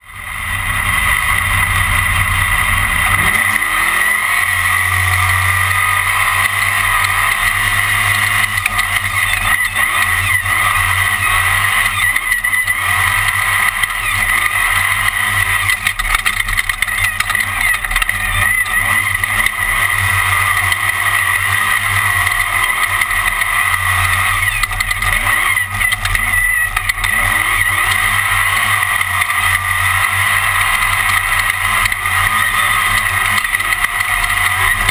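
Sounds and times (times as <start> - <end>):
race car engine revving: 0.0 - 34.9
wind and chassis noise: 0.1 - 34.9.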